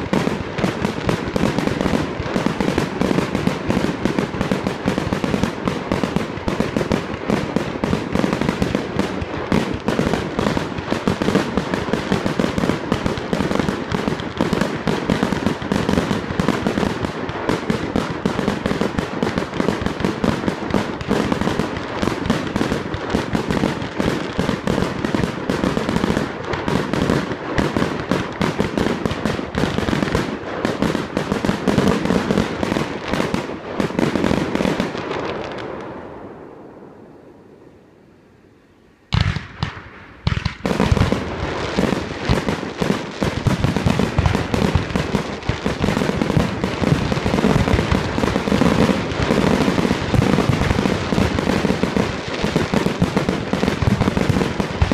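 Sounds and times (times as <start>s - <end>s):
fireworks bangs and crackling: 0.0s - 37.7s, 39.0s - 54.9s.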